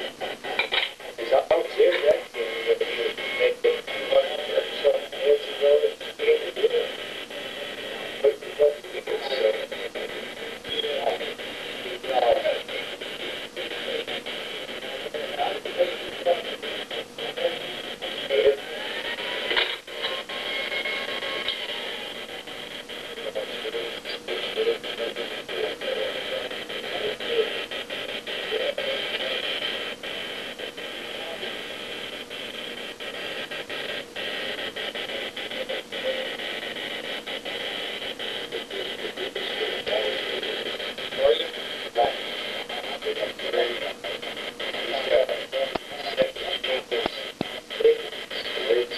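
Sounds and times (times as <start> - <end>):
muffled radio-like talking: 0.0 - 48.9
steady hiss: 0.0 - 48.9.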